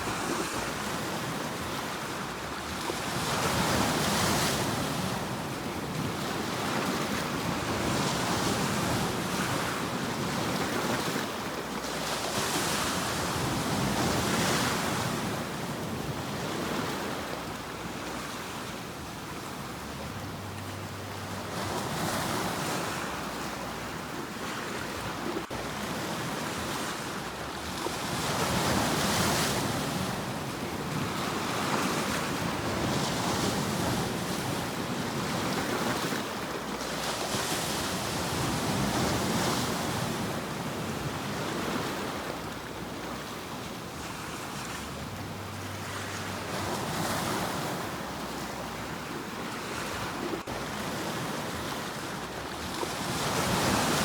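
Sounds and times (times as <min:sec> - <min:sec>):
sea waves breaking: 0:00.0 - 0:54.0.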